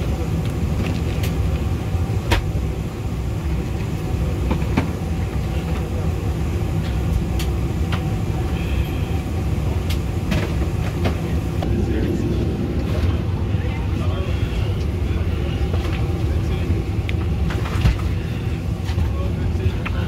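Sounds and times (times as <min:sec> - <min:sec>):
cabin air system humming: 0:00.0 - 0:20.0.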